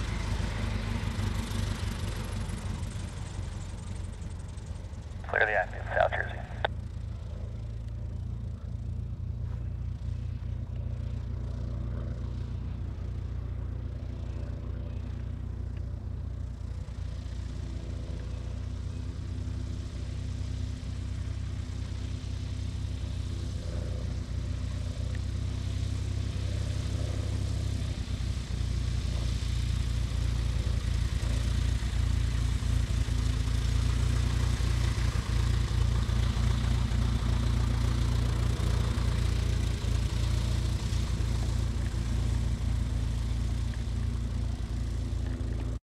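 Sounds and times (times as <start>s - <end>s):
light aircraft engine idling: 0.0s - 45.8s.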